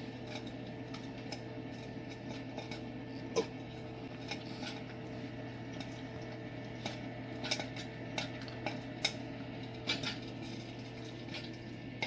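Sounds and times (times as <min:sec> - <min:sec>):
kernels clicking in metal kettle: 0:00.0 - 0:03.5, 0:05.7 - 0:12.0
popcorn machine motor hum: 0:00.0 - 0:12.0.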